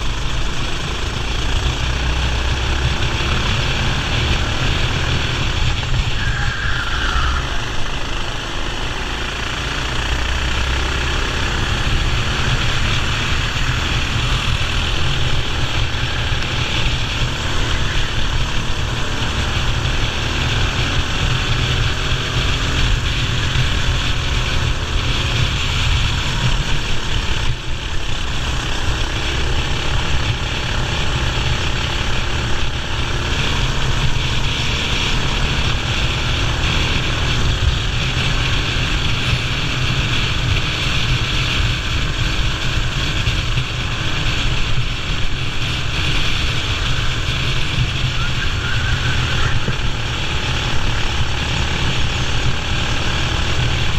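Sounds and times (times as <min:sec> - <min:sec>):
kart engine running hard: 0:00.0 - 0:53.9.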